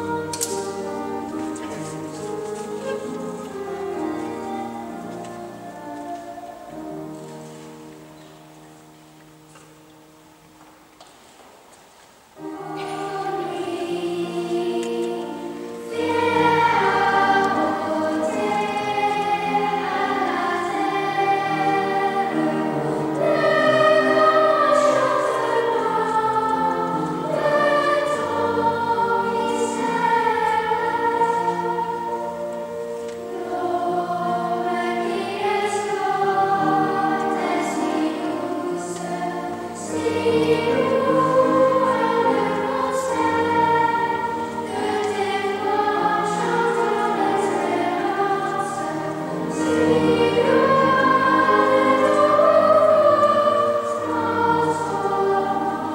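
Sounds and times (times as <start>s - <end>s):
children's choir singing: 0.0s - 10.3s, 12.3s - 55.9s.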